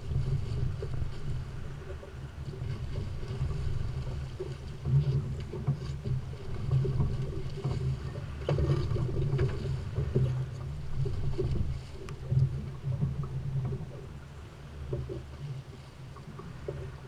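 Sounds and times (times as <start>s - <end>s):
water splashing against hull: 0.0s - 17.0s.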